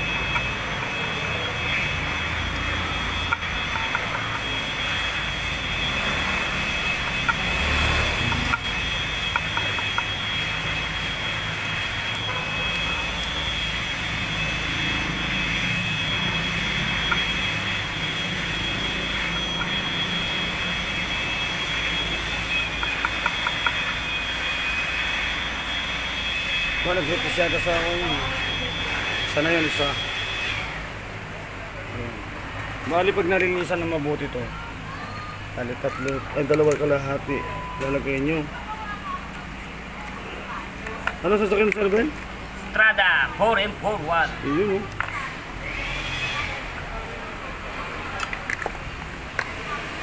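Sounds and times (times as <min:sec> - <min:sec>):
machine droning with high whine: 0:00.0 - 0:50.0.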